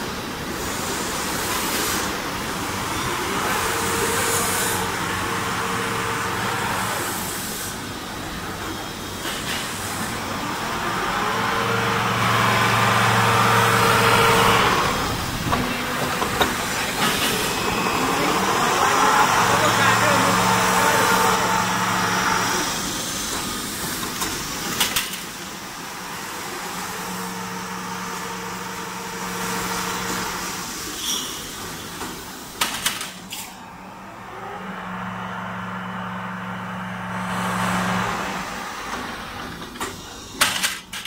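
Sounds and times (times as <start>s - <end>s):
machine motor and hydraulic hum: 0.0s - 41.0s.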